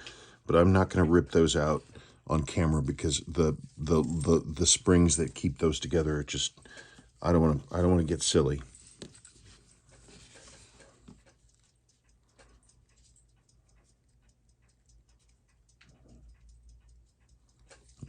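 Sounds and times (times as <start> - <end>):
low steady hum: 0.0 - 18.0
watchmaking tools clicking and tapping: 2.6 - 18.0.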